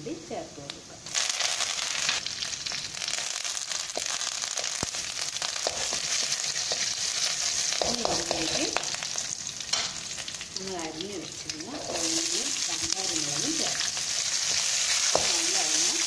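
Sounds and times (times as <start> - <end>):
spices sizzling in hot oil: 0.1 - 16.0.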